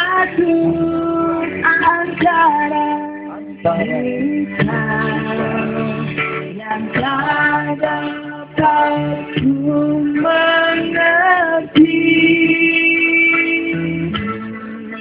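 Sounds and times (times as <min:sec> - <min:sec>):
amplified backing music: 0:00.0 - 0:15.0
woman singing into a microphone: 0:00.0 - 0:15.0.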